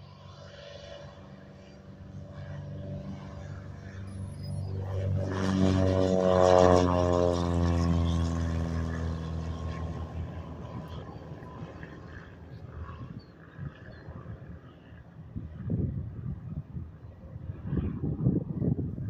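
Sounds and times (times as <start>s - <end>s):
propeller plane taking off: 0.0s - 19.0s.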